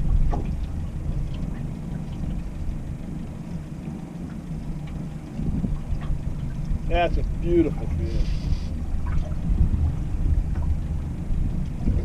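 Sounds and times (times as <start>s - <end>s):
water lapping against boat hull: 0.0s - 12.0s
wind rumbling on microphone: 0.0s - 12.0s.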